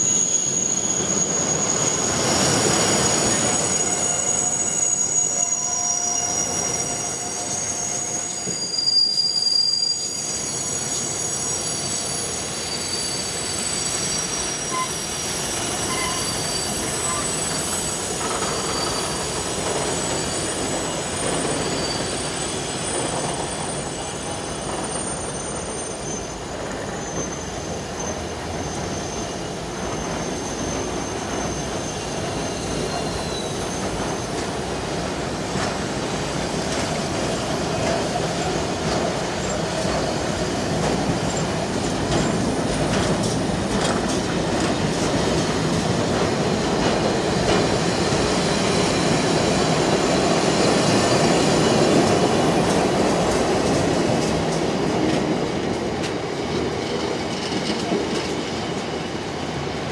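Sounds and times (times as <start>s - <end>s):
rumble of train wheels on rail: 9.9s - 59.9s.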